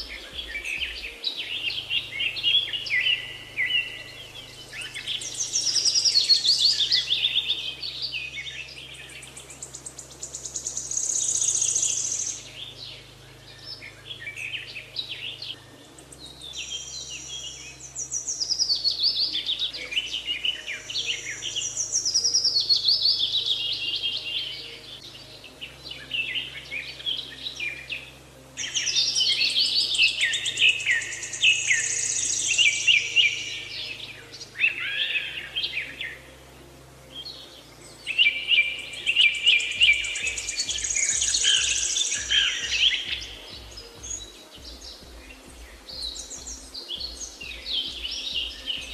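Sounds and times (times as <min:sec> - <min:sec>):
songbirds trilling: 0:00.0 - 0:48.9.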